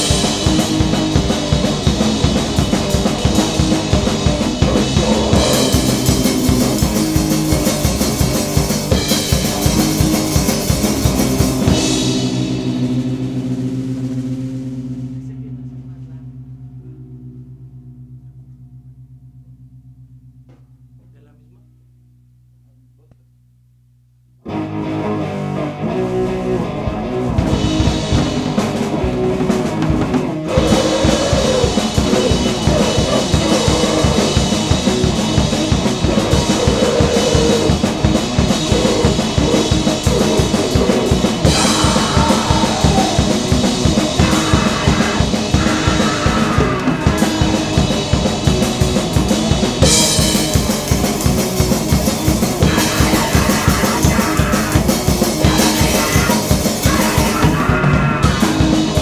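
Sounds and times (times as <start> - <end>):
fast loud drumming: 0.0 - 16.7, 26.5 - 59.0
distorted guitar and bass: 0.0 - 59.0.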